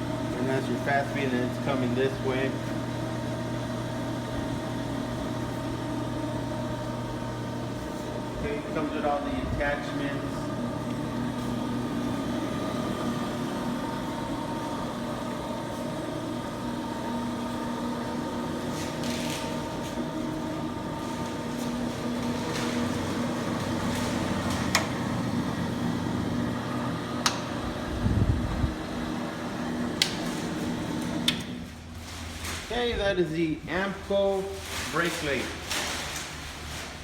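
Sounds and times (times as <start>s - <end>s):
electric motor humming: 0.0s - 31.7s.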